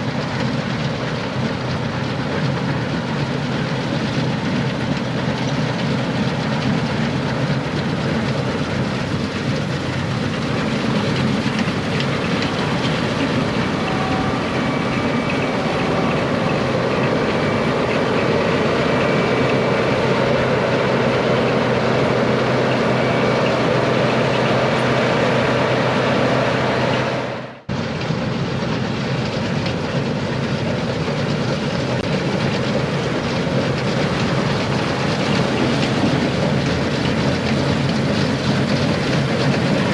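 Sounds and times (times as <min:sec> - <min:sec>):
combine harvester engine and threshing: 0:00.0 - 0:39.9.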